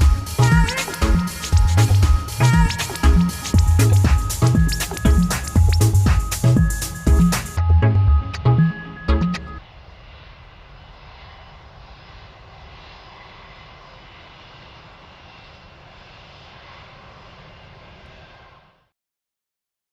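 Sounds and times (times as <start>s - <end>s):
airplane engine drone: 0.0s - 18.9s.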